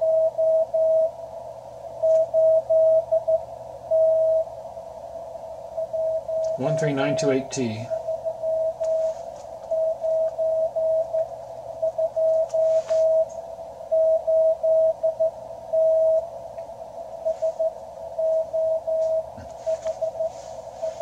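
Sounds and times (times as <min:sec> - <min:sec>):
morse code tone: 0:00.0 - 0:01.2, 0:02.0 - 0:04.5, 0:05.8 - 0:13.3, 0:13.9 - 0:16.3, 0:17.2 - 0:21.0
receiver hiss: 0:00.0 - 0:21.0.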